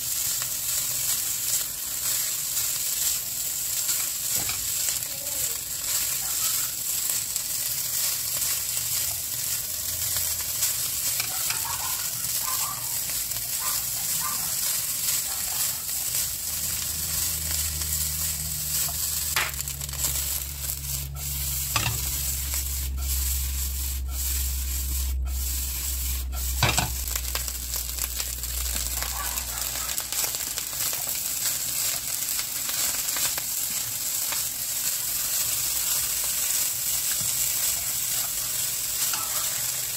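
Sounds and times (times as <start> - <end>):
fried rice sizzling in a wok: 0.0 - 39.9.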